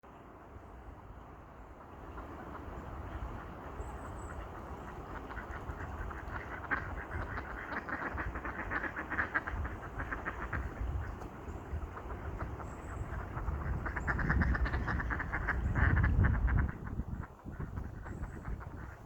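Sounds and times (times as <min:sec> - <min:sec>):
ducks quacking: 0:02.1 - 0:19.0.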